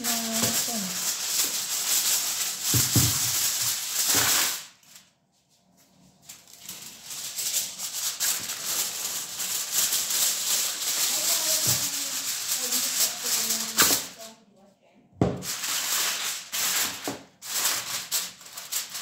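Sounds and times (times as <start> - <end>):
aluminium foil crinkling: 0.0 - 14.4, 15.4 - 19.0.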